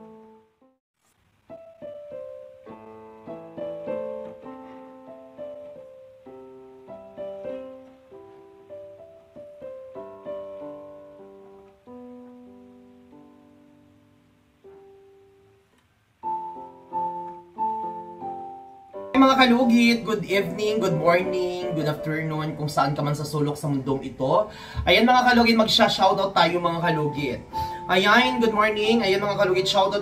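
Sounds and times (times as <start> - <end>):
piano music: 0.0 - 0.8, 1.4 - 30.0.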